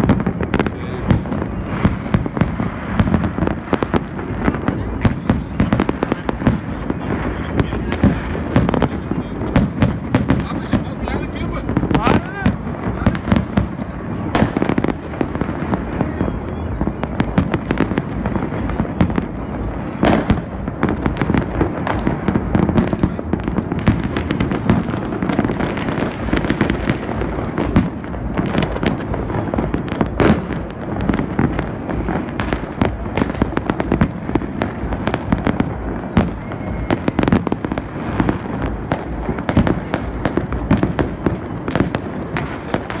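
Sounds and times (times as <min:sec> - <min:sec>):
fireworks bangs and crackles: 0:00.0 - 0:43.0
loud firework bangs: 0:00.0 - 0:43.0.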